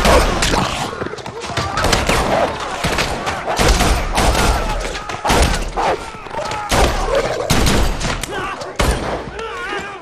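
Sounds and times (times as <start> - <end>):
gunshots: 0.0 - 9.3.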